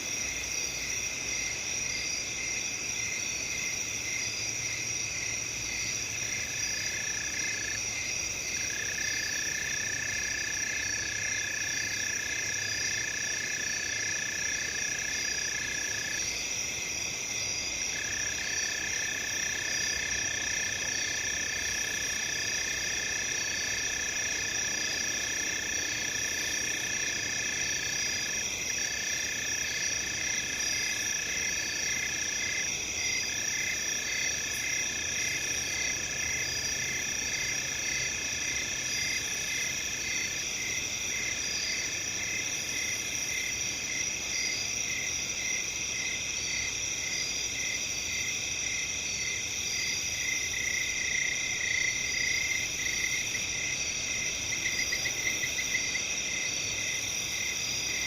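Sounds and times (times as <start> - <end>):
crickets and insects trilling: 0.0 - 58.0
low continuous insect trill: 0.0 - 58.0.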